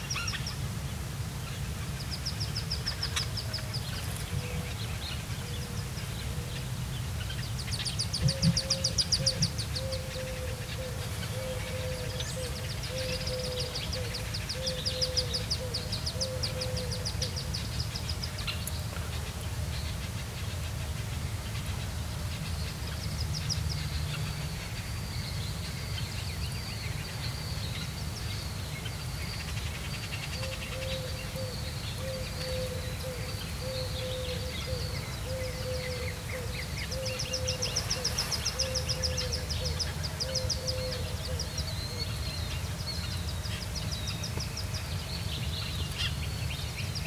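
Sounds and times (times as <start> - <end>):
ducklings peeping: 1.8 - 47.0.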